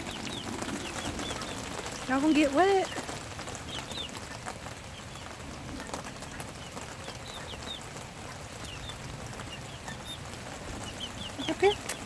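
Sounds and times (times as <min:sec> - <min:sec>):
chicks peeping: 0:00.0 - 0:12.0
rain on a tarp roof: 0:00.0 - 0:12.0.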